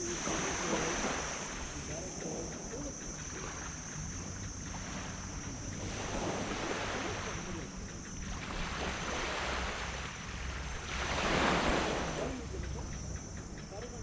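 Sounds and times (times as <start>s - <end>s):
waves washing on sand beach: 0.0s - 14.0s.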